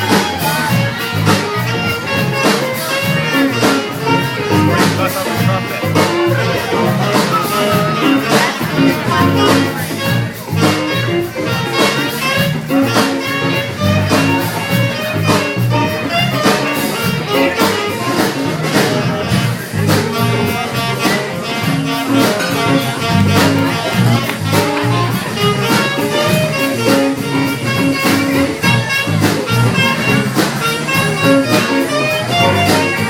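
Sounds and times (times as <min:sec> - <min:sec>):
live jazz band playing: 0:00.0 - 0:33.0.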